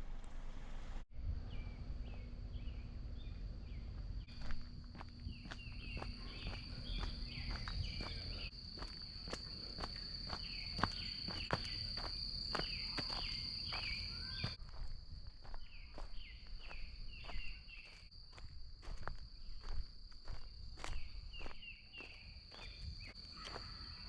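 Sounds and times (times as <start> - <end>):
footsteps on trail: 2.0 - 24.0.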